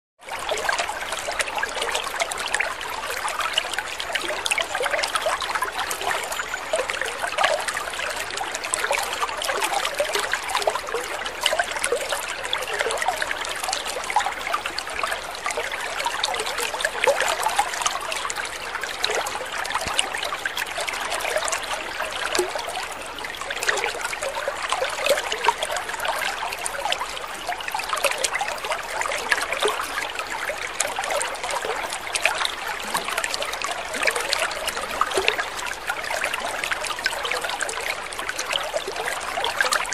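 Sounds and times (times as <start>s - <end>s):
water trickling and bubbling: 0.2s - 39.9s.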